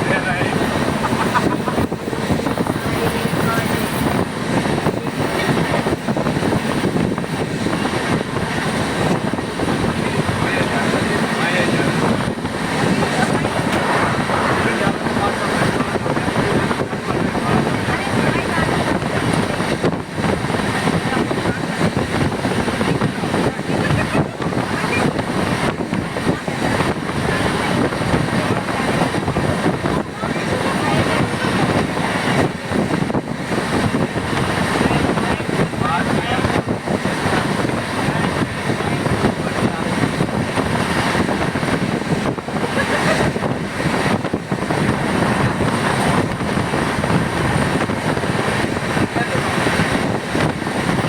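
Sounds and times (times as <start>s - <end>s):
rushing air: 0.0s - 51.0s
train wheels on rails: 0.0s - 51.0s.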